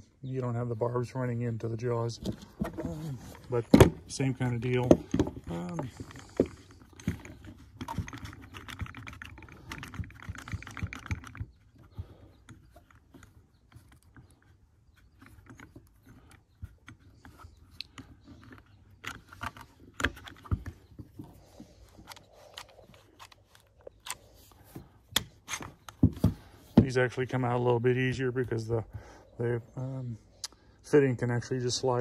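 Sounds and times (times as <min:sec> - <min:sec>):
handling noise: 0:02.0 - 0:29.0.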